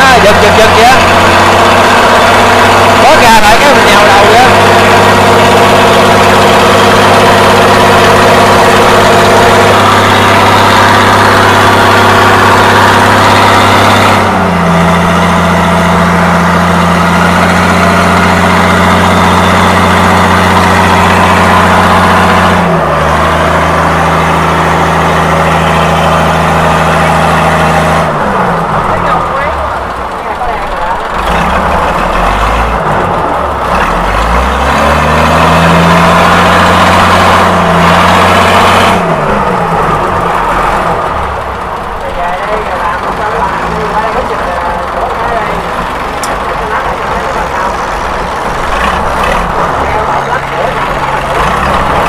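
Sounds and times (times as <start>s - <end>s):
diesel boat engine running loudly: 0.0s - 52.0s.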